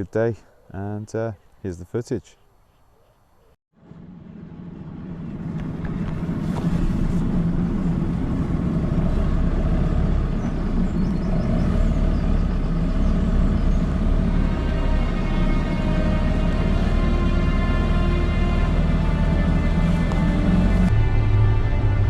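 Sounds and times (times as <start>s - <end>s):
boat engine running: 3.8s - 22.0s.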